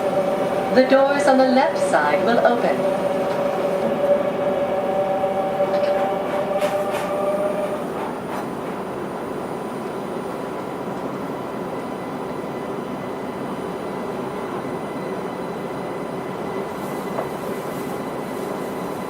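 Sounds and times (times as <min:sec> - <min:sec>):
train interior hum: 0:00.0 - 0:19.0.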